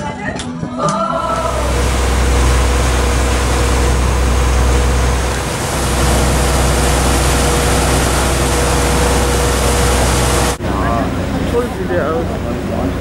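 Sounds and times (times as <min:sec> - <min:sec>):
ship engine rumbling: 0:01.3 - 0:13.0
thin steady whine: 0:01.4 - 0:13.0
wind and water hiss: 0:01.4 - 0:13.0.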